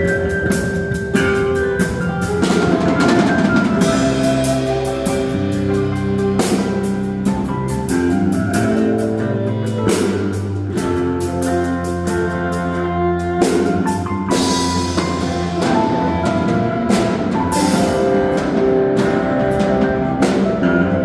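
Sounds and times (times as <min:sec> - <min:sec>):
live band playing instrumental: 0:00.0 - 0:21.0.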